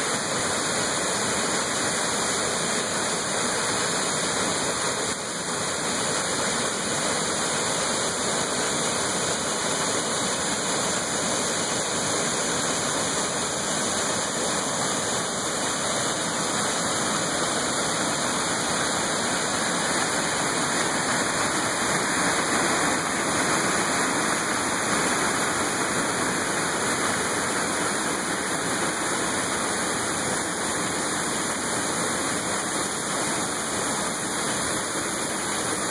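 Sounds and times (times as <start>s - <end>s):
creek rushing: 0.0s - 35.9s
waterfall rushing: 0.0s - 35.9s.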